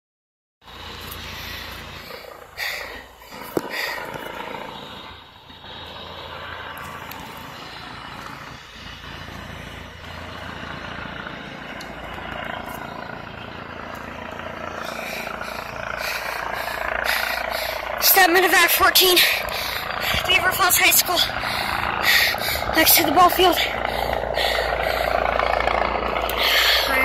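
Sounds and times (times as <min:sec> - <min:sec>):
helicopter rotor and engine: 0:00.6 - 0:27.0.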